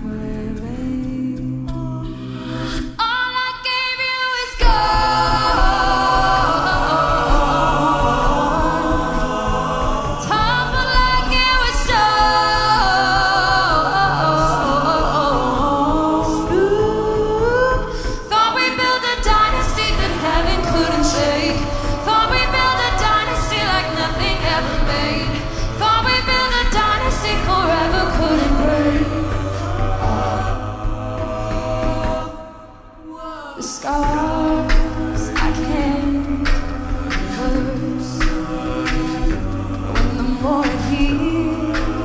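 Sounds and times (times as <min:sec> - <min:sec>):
beatboxed percussion: 0:00.0 - 0:03.7, 0:04.4 - 0:32.5, 0:33.6 - 0:42.0
backing vocal harmonies: 0:00.0 - 0:42.0
female lead singing: 0:00.0 - 0:42.0
sung bass line: 0:04.6 - 0:18.0, 0:19.2 - 0:32.3, 0:34.0 - 0:42.0.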